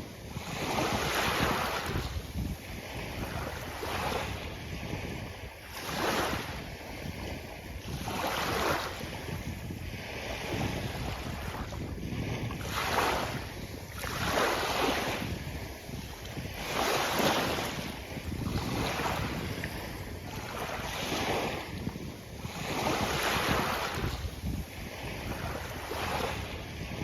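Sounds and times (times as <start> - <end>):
sea waves breaking on beach: 0.0 - 27.0.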